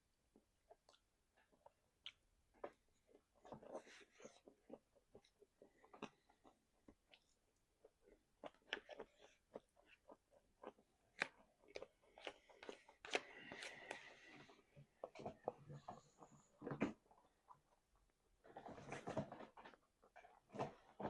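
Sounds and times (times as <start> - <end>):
chewing and crunching food: 0.3 - 21.0.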